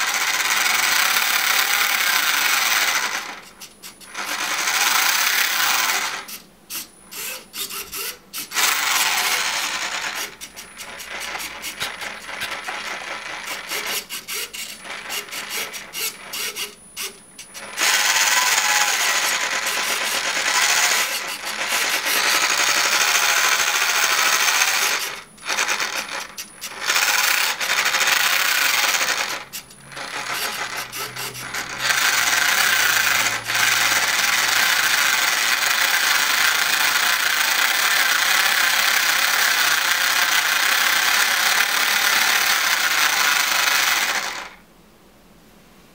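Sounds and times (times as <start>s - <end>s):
rc car motor whirring: 0.0s - 44.6s.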